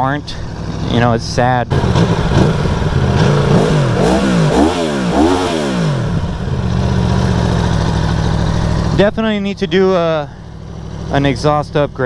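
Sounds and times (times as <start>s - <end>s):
motorcycle engine idling: 0.0s - 12.0s
motorcycle engine revving: 0.0s - 12.0s.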